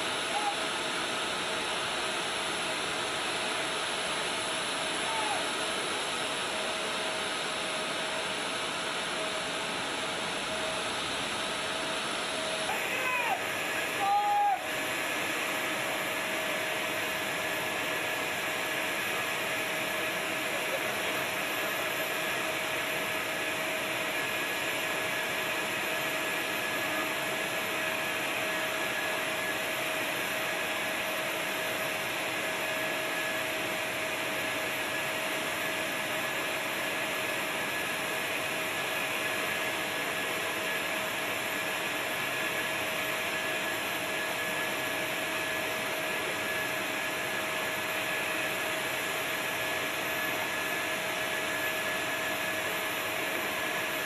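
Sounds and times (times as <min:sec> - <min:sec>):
steady two-tone whine: 0:00.0 - 0:54.0.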